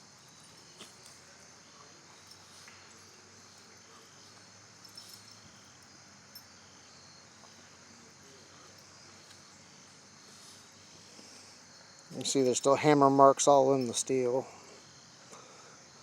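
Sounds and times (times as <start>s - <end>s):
faint crickets chirping: 0.0s - 16.0s.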